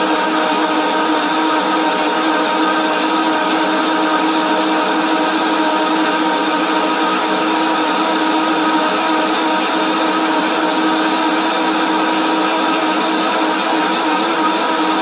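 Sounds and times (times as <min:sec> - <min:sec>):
blender motor whine: 0:00.0 - 0:15.0.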